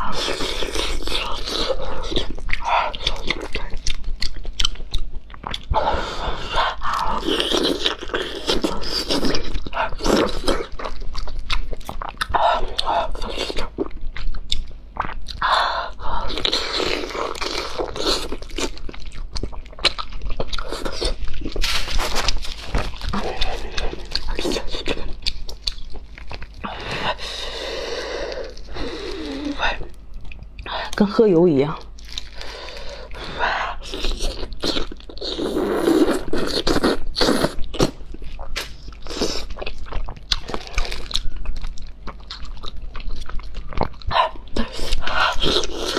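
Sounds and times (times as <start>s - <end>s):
wet chewing: 0.0s - 31.1s, 31.8s - 45.9s.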